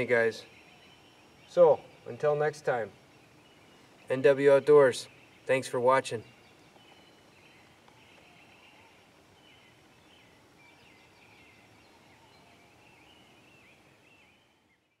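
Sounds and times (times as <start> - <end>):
high chirping calls: 0.0 - 15.0.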